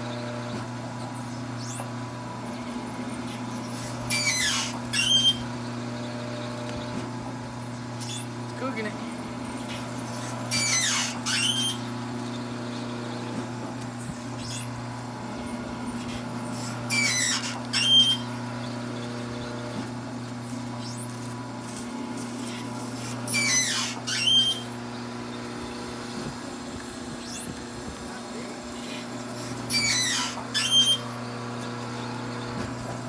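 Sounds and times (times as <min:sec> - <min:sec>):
pumpjack drive drone: 0:00.0 - 0:33.0.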